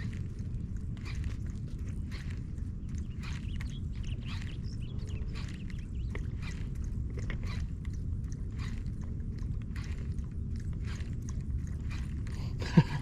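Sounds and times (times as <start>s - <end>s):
fishing reel clicking: 0.0s - 12.8s
low rumble: 0.0s - 13.0s.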